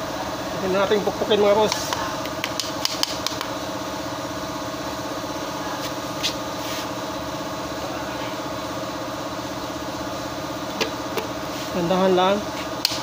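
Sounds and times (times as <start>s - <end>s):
machine engine hum: 0.0s - 13.0s.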